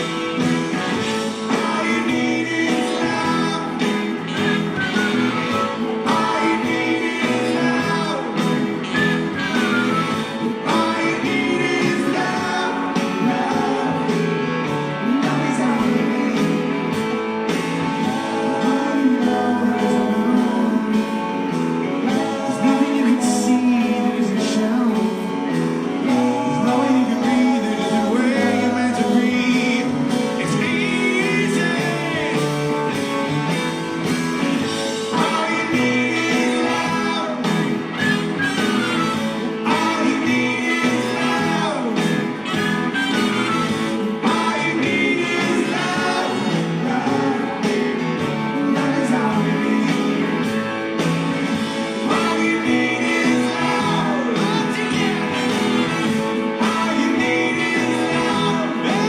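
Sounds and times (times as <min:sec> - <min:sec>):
man singing: 0:00.0 - 0:33.2, 0:34.5 - 0:51.0, 0:51.6 - 0:59.0
live rock band playing: 0:00.0 - 0:59.0.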